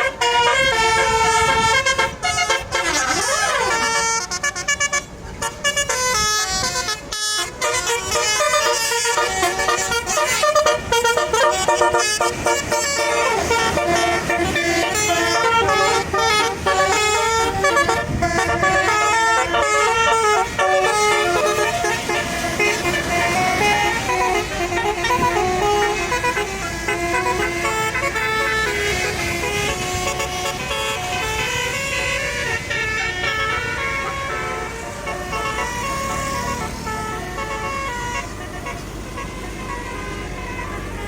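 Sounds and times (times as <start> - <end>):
bus horn playing a melody: 0.0 - 41.0.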